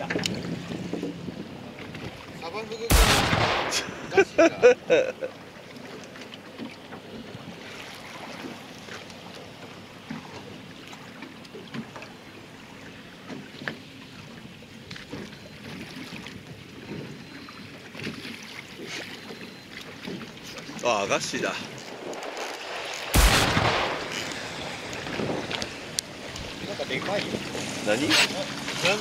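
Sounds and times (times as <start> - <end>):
water: 0.0 - 29.0
wind: 0.0 - 29.0.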